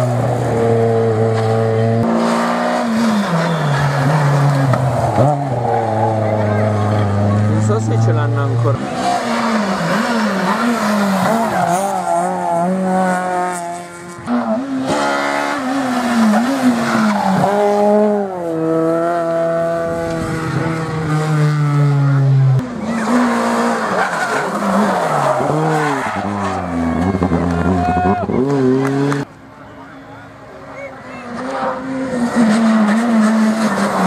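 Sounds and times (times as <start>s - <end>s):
rally car engines revving: 0.0s - 34.0s.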